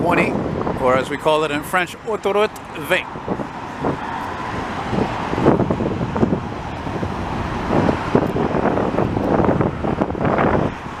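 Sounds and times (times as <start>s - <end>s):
highway traffic rushing past: 0.0s - 11.0s
wind on microphone: 0.0s - 11.0s.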